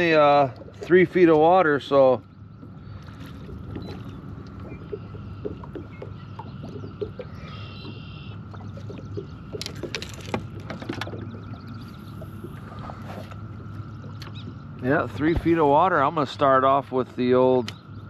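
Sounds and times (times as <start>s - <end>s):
small splashes and ticks: 0.0s - 15.8s
steady low hum: 0.0s - 18.0s
water lapping against hull: 0.0s - 18.0s.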